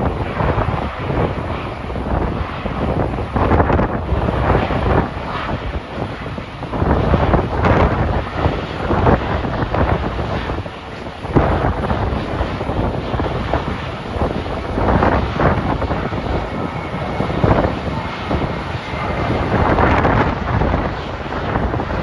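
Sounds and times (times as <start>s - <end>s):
jet engine noise: 0.0s - 22.0s
wind gusting on microphone: 0.0s - 22.0s.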